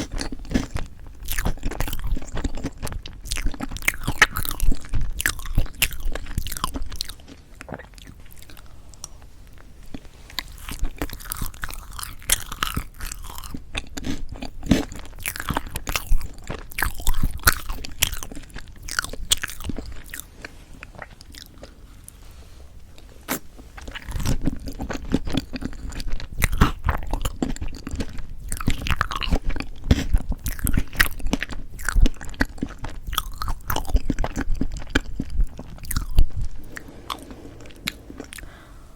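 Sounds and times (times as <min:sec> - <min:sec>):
chewing and biting cake: 0:00.0 - 0:22.2, 0:23.0 - 0:38.5.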